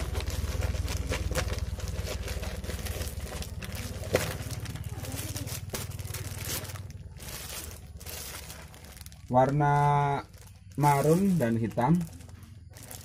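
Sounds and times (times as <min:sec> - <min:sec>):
low steady hum: 0:00.0 - 0:13.0
plastic wrapping crinkling: 0:00.0 - 0:13.0
sharp plastic crackle: 0:00.0 - 0:13.0.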